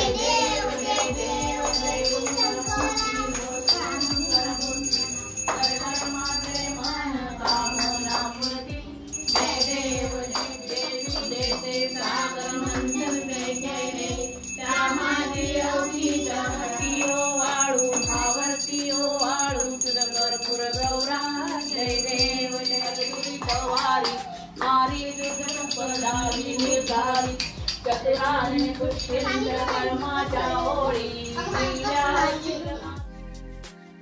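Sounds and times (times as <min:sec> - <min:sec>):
high bells ringing: 0:00.0 - 0:29.7, 0:31.2 - 0:32.4
voices singing a hymn: 0:00.0 - 0:33.4.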